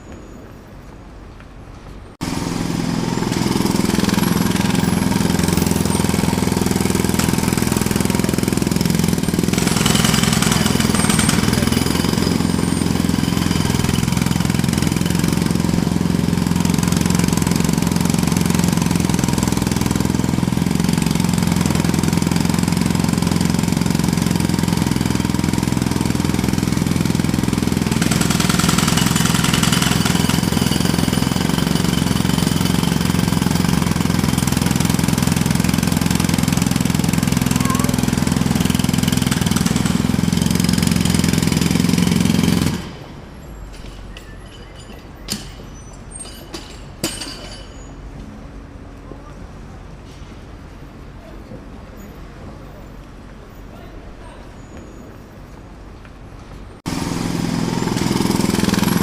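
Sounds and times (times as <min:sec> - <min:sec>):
jackhammer hammering: 0:02.2 - 0:43.2, 0:43.8 - 0:47.9, 0:56.8 - 0:59.0.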